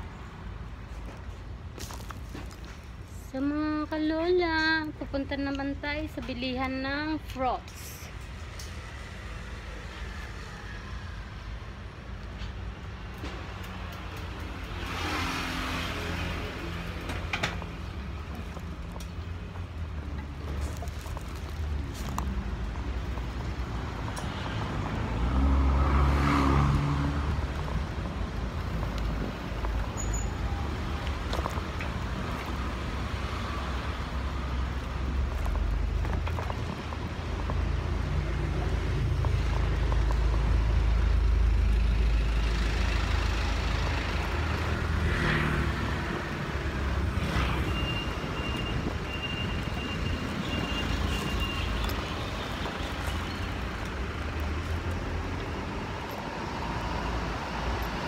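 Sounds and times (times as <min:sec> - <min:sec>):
street traffic: 0:00.0 - 0:58.0.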